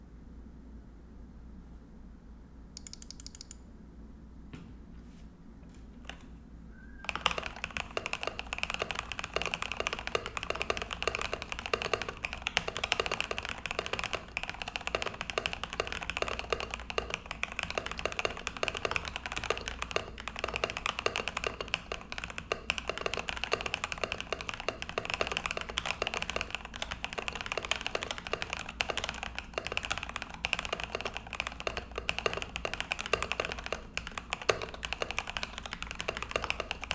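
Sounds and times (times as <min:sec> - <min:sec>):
mechanical keyboard typing: 0:02.8 - 0:03.6, 0:07.0 - 0:36.9.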